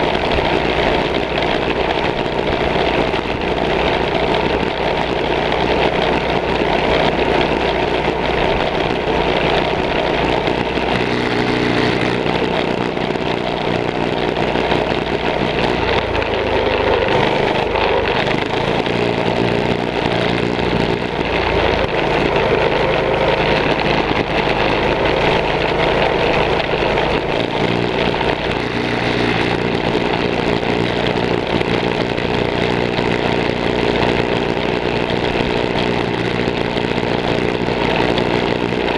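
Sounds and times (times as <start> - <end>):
mini bike engines droning: 0.0 - 38.9.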